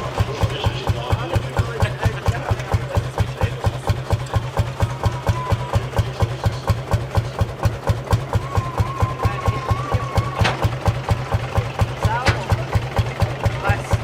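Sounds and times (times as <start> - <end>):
tractor engine idling thumping: 0.0 - 14.0.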